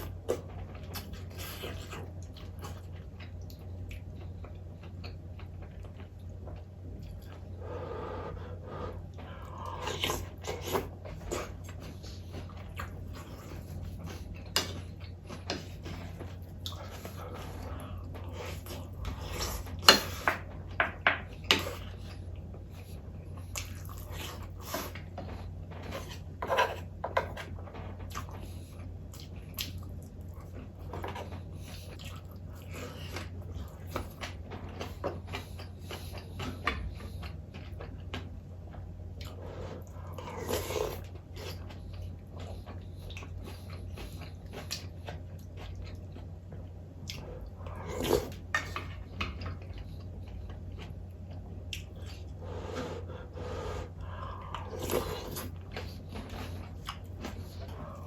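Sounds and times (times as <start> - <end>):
chewing and eating: 0.0 - 58.0
steady low hum: 0.0 - 58.0.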